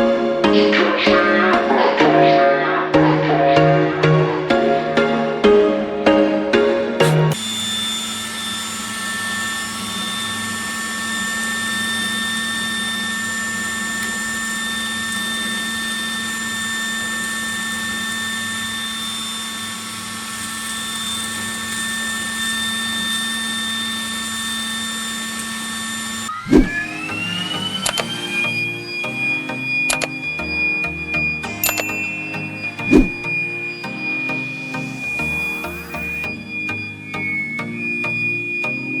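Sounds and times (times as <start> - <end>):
vacuum cleaner motor running: 7.4 - 39.0.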